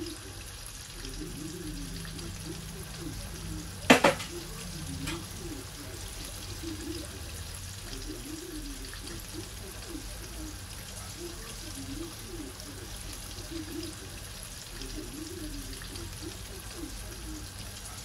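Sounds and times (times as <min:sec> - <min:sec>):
oil sizzling and crackling: 0:00.0 - 0:18.0.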